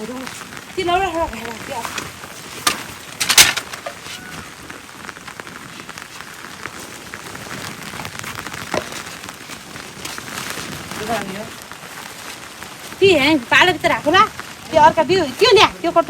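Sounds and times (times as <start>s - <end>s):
raindrops ticking on surfaces: 0.0s - 16.0s
steady rain falling: 0.0s - 16.0s.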